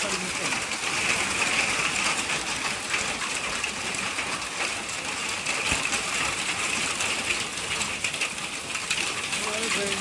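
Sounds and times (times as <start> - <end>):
hail and rain hitting surfaces: 0.0 - 10.0.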